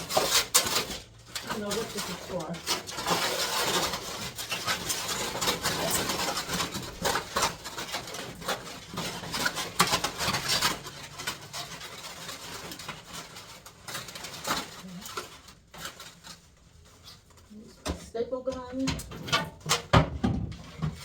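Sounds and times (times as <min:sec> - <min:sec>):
building materials rustling and knocking: 0:00.0 - 0:21.0.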